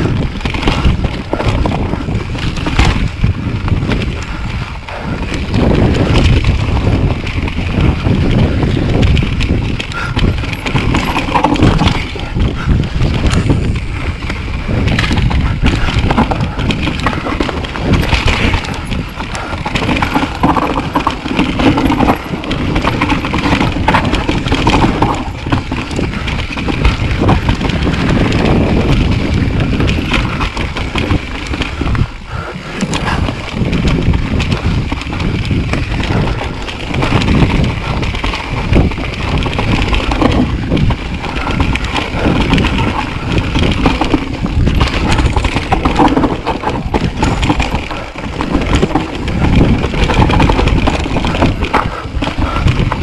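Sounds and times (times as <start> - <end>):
bike knocking and rattling: 0.0 - 53.0
bike tyres rolling over dirt: 0.0 - 53.0
wind buffeting microphone: 0.0 - 53.0.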